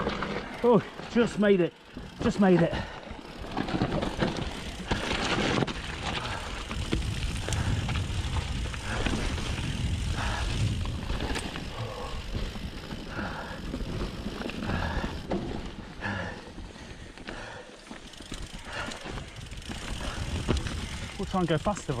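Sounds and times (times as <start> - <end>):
bike rattling over bumps: 0.0 - 22.0
bike tyres rolling over dirt: 0.0 - 22.0.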